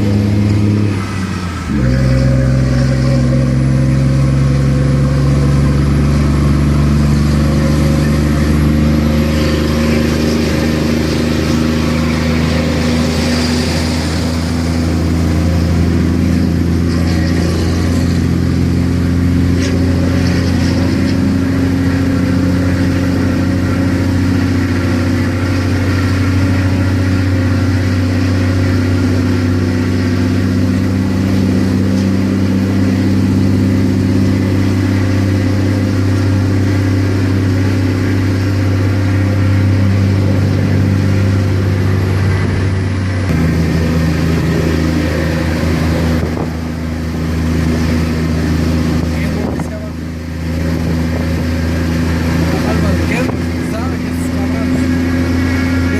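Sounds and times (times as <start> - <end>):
coach diesel engine running: 0.0 - 55.9.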